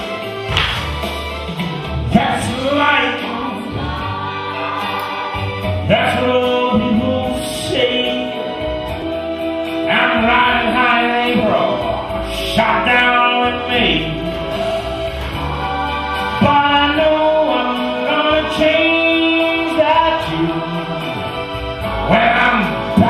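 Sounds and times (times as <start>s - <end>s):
instrumental accompaniment: 0.0s - 23.0s
person singing with long notes: 2.2s - 23.0s.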